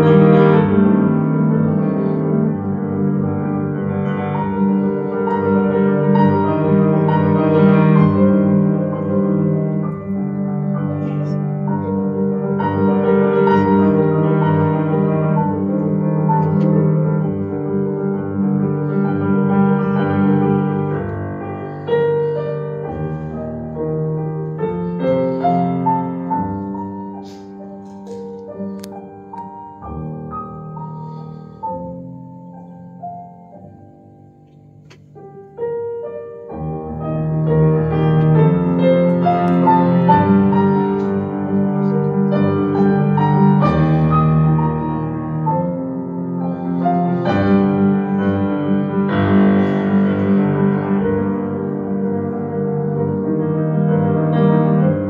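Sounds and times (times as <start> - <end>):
solo grand piano playing: 0.0 - 55.0.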